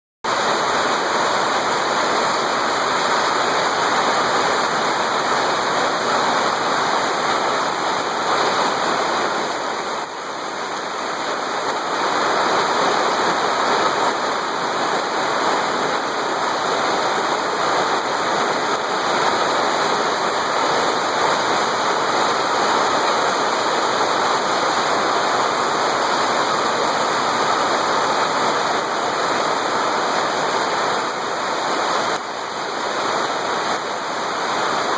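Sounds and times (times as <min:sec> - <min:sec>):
heavy rain falling: 0:00.2 - 0:34.9.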